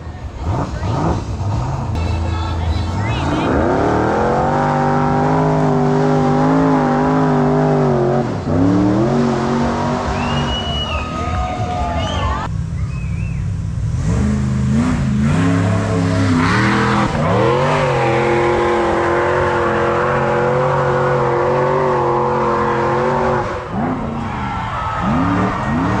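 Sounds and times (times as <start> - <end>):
off-road engine revving: 0.0 - 26.0.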